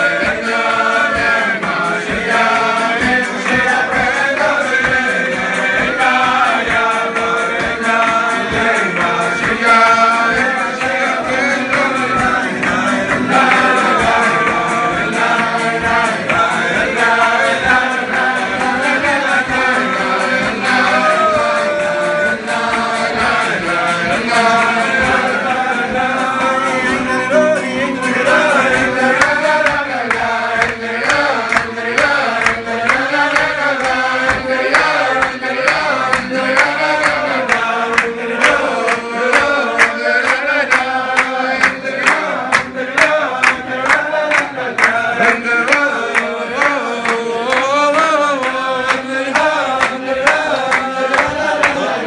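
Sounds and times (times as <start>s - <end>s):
acoustic guitar: 0.0s - 52.0s
hand-clapping: 0.0s - 52.0s
men singing together: 0.0s - 52.0s.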